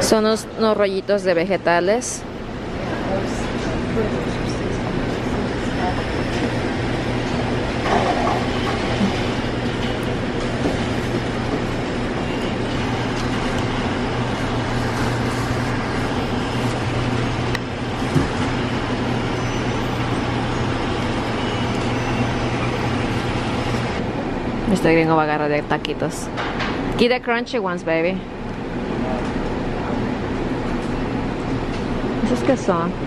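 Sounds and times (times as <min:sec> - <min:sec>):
constant even noise: 0:00.0 - 0:33.0
low mechanical hum: 0:00.0 - 0:33.0.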